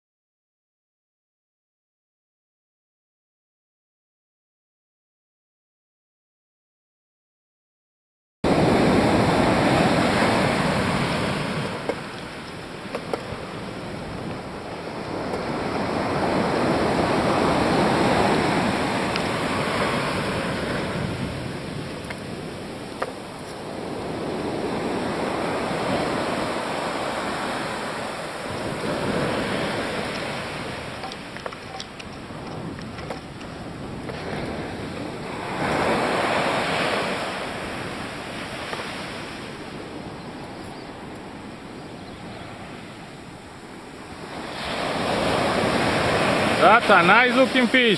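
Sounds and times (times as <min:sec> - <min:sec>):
ocean surf breaking on beach: 0:08.5 - 0:47.9.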